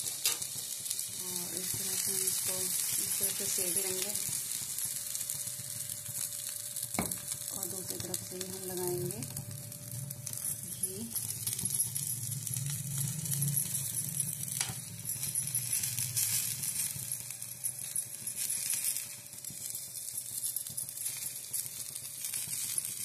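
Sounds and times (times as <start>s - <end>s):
ghee sizzling on griddle: 0.0s - 23.0s.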